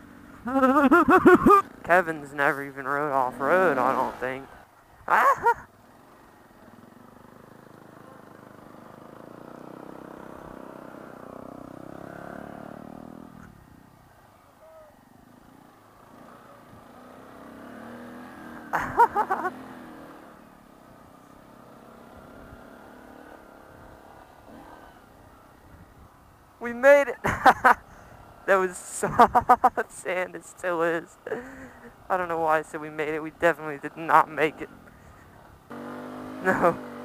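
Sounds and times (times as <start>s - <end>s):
motorcycle engines running: 0.0s - 37.0s.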